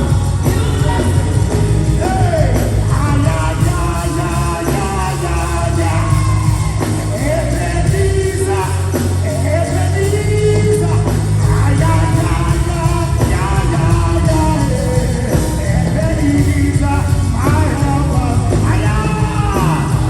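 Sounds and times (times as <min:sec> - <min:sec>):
gospel band playing: 0:00.0 - 0:20.0
heavy bass line: 0:00.0 - 0:20.0
people singing and calling out: 0:00.0 - 0:20.0.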